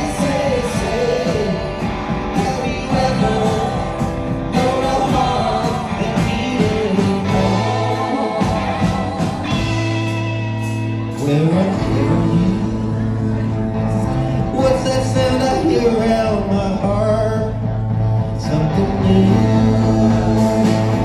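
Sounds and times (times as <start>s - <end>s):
voices singing: 0.0s - 17.6s, 18.4s - 21.0s
live rock band playing: 0.0s - 21.0s.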